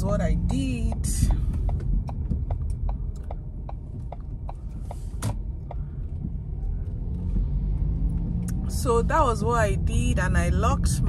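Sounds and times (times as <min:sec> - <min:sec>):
light regular ticking: 0:00.0 - 0:09.0
road and engine rumble: 0:00.0 - 0:11.0.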